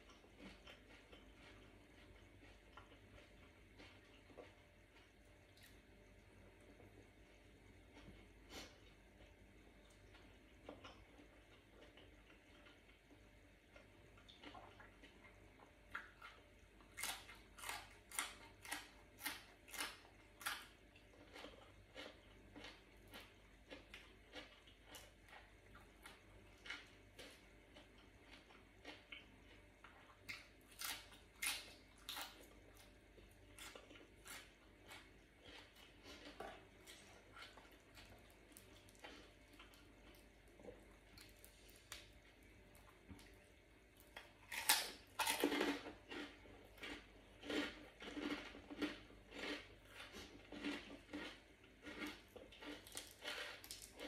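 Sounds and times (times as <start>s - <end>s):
crunchy chewing of raw vegetables: 0.0s - 54.0s.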